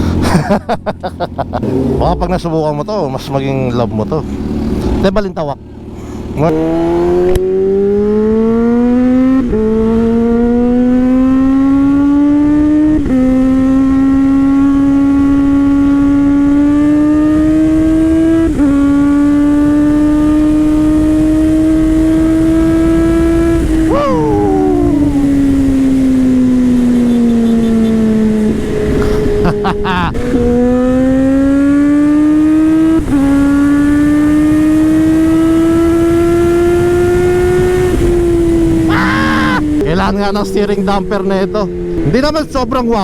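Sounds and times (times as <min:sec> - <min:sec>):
motorcycle engine accelerating: 0:00.0 - 0:42.2.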